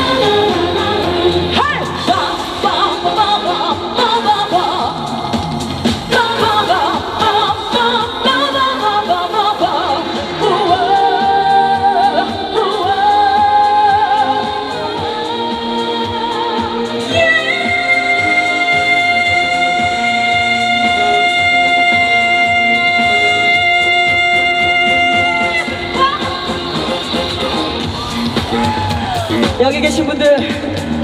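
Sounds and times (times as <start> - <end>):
live pop band with singing: 0.0 - 31.0.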